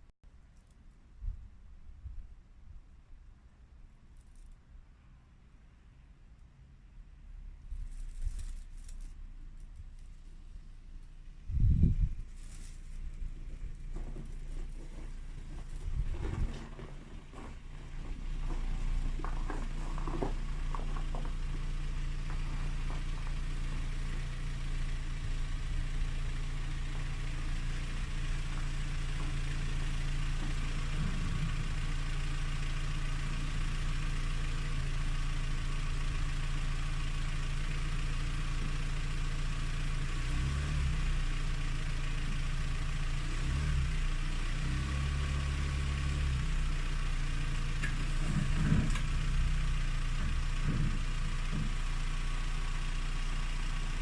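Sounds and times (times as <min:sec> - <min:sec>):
engine humming: 0:07.5 - 0:54.0.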